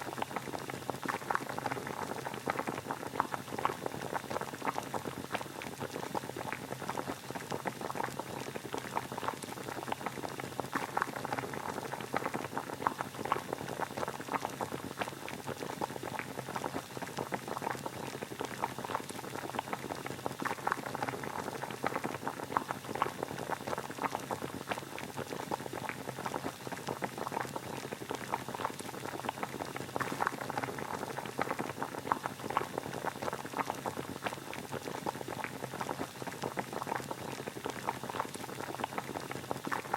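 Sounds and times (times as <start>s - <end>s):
water boiling and bubbling: 0.0s - 39.9s.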